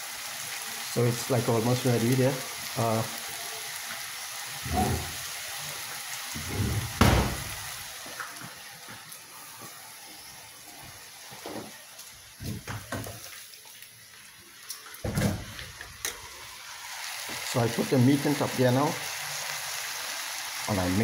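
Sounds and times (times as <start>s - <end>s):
noodles sizzling in a pan: 0.0s - 21.0s.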